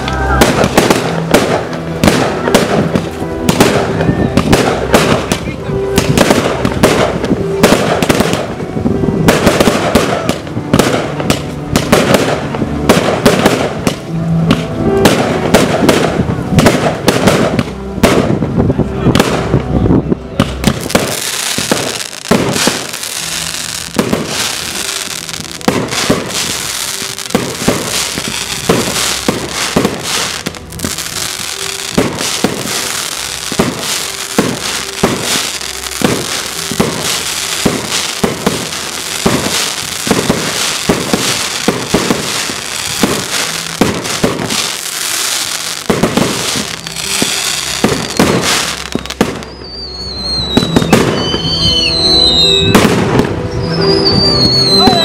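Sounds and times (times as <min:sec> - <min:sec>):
firework bangs: 0:00.0 - 0:53.4
firework crackling: 0:00.0 - 0:55.0.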